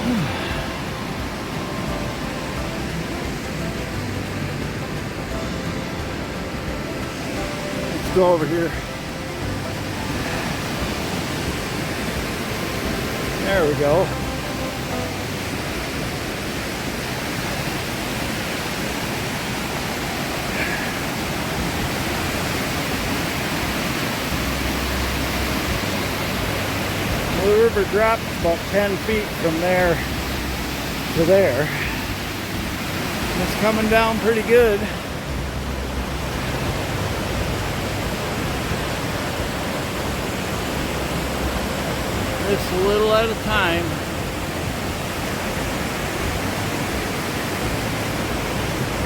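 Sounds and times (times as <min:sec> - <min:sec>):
river rushing down a drop: 0:00.0 - 0:49.0.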